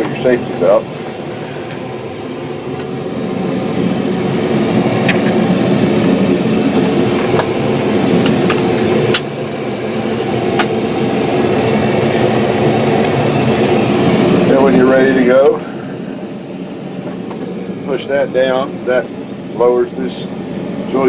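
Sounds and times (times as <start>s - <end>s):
air conditioning fan: 0.0s - 21.0s
diesel engine idling: 0.0s - 21.0s.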